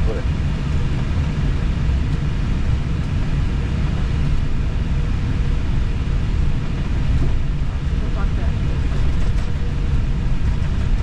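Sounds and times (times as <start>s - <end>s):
aircraft cockpit rumble and hiss: 0.0s - 11.0s.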